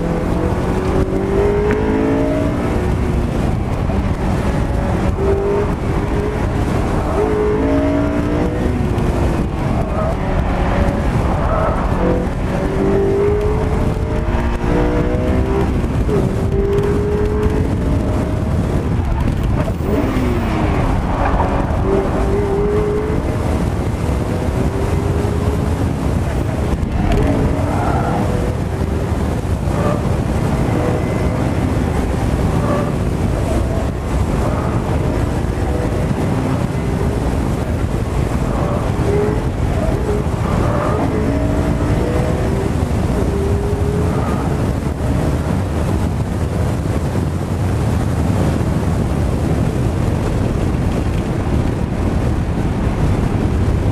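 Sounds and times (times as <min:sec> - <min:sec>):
car engine revving: 0:00.0 - 0:47.9
road and wind noise: 0:00.0 - 0:53.9.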